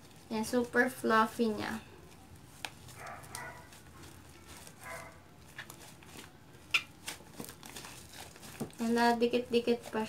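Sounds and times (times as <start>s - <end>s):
slime being kneaded by hand: 0.0s - 10.0s.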